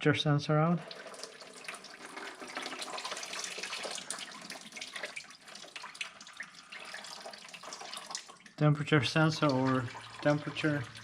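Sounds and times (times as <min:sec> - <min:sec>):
coolant splashing and trickling: 0:00.8 - 0:11.0.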